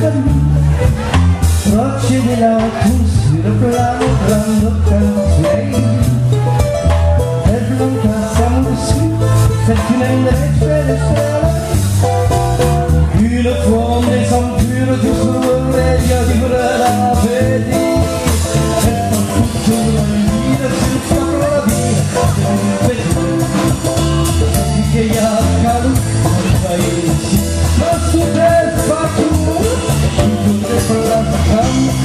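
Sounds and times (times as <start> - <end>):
drum kit with cymbals: 0.0 - 32.0
person singing: 0.0 - 32.0.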